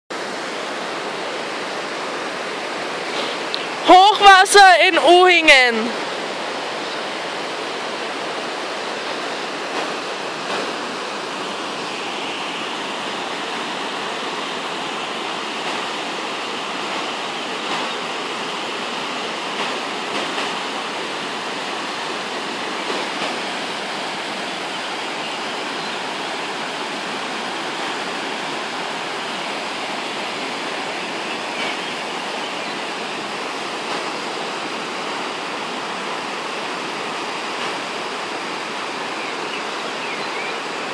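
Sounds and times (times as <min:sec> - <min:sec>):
flooded river rushing over rapids: 0:00.1 - 0:40.9.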